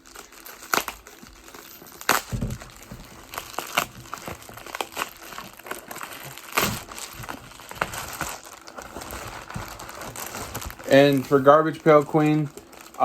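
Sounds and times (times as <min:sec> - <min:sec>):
paper and cardboard crinkling: 0:00.0 - 0:13.0.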